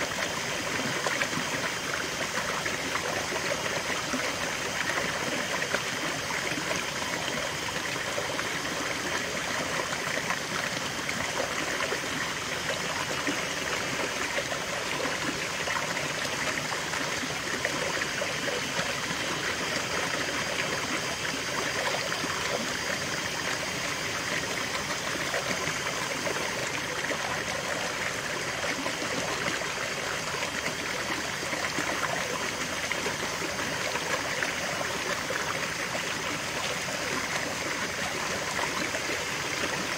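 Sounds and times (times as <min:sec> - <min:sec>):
stream water cascading and splashing: 0:00.0 - 0:39.9.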